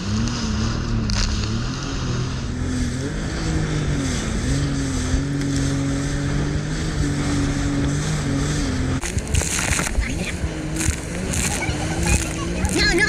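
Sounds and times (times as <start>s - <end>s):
jet ski engine running: 0.0s - 13.0s
water spray rushing: 0.0s - 13.0s
wind noise on microphone: 0.0s - 13.0s.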